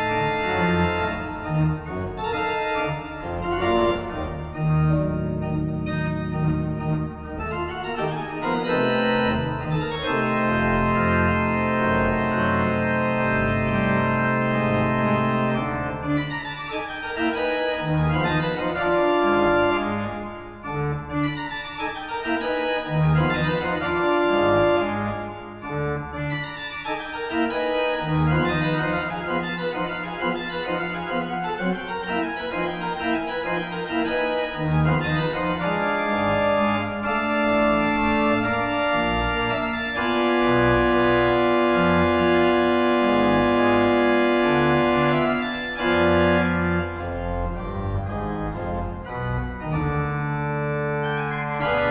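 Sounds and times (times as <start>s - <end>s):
pipe organ chords: 0.0s - 51.9s.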